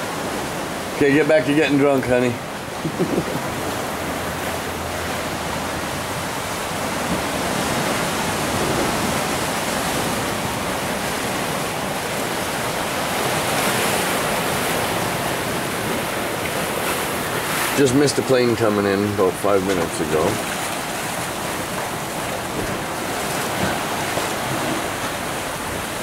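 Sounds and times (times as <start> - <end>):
surf washing against rocks: 0.0 - 26.0.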